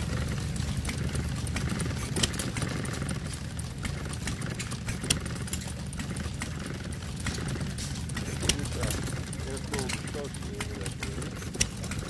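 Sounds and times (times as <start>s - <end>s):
model gas engine running: 0.0s - 12.0s
sharp engine clicks: 0.0s - 12.0s.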